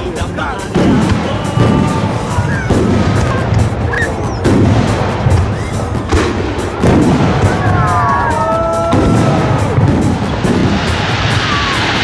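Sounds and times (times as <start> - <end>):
fireworks bangs and crackles: 0.0 - 12.0
heavy firework booms: 0.6 - 12.0.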